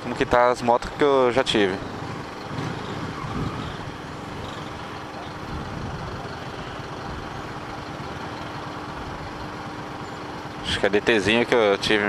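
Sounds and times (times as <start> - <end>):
motorcycle engine: 0.0 - 12.0
wind and road noise: 0.0 - 12.0.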